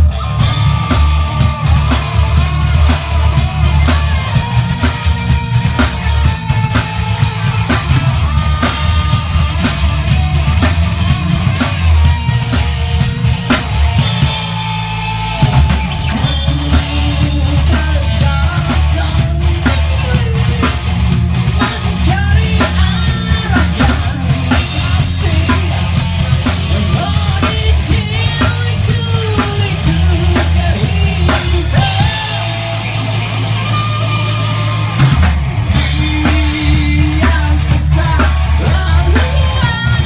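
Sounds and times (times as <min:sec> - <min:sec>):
rock band playing: 0:00.0 - 0:40.0.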